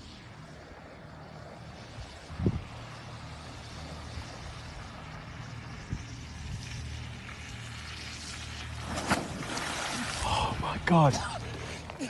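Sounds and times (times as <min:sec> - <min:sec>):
steady low rumble: 0:00.0 - 0:12.0
bicycle tyres splashing through water: 0:00.8 - 0:12.0.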